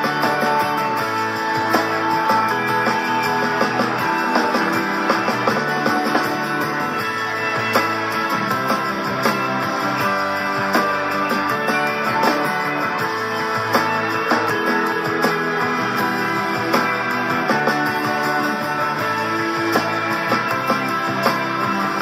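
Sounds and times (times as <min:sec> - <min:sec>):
guitar plucked and strummed: 0:00.0 - 0:22.0.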